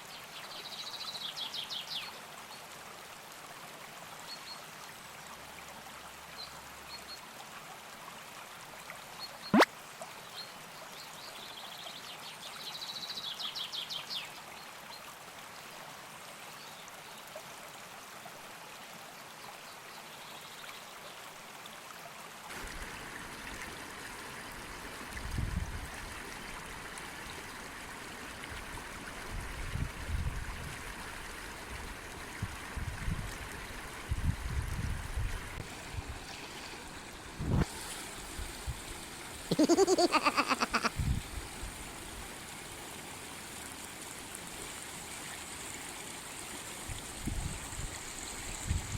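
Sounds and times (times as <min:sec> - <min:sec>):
river water running: 0:00.0 - 0:48.9.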